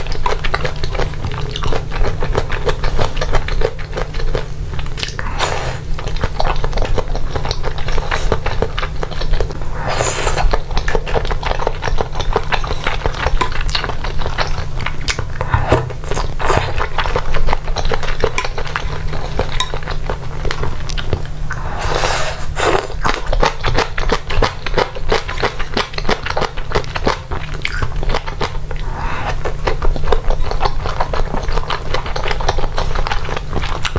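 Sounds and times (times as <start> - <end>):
wet chewing and lip smacking: 0.0 - 5.2, 5.9 - 9.6, 10.4 - 21.7, 22.4 - 33.9.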